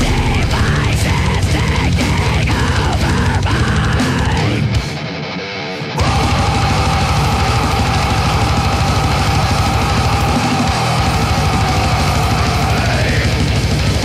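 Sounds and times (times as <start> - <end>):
fast dense drumming: 0.0 - 4.9, 6.0 - 14.0
heavy metal band playing: 0.0 - 14.0.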